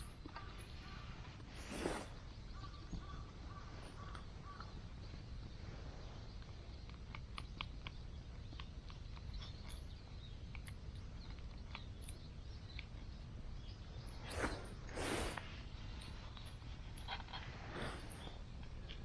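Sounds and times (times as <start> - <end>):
rustle: 0.0 - 7.5, 8.9 - 19.0
chirps: 0.0 - 19.0.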